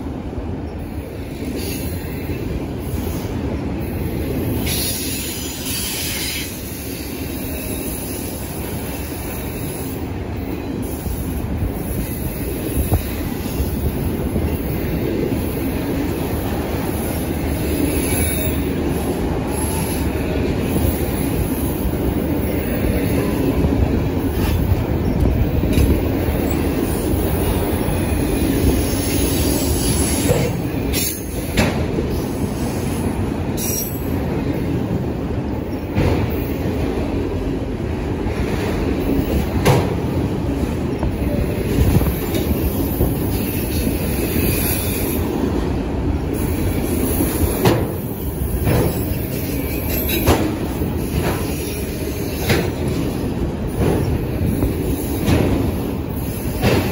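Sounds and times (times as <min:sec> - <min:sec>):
freight train wheels rumbling: 0:00.0 - 0:56.9
train cars clanking and rattling: 0:00.0 - 0:56.9.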